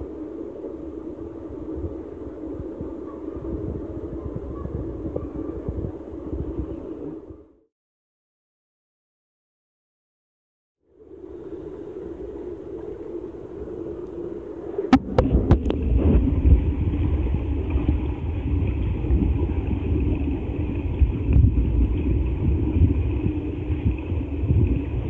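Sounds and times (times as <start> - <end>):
underwater water rumble: 0.0 - 7.6, 10.9 - 25.0.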